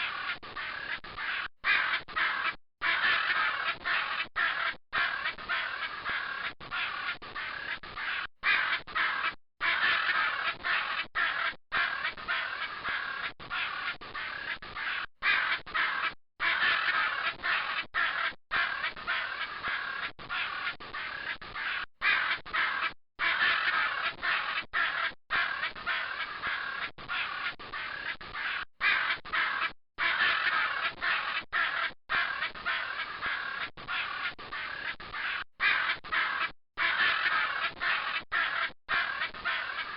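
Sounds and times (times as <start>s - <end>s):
macaws squawking: 0.0s - 39.9s.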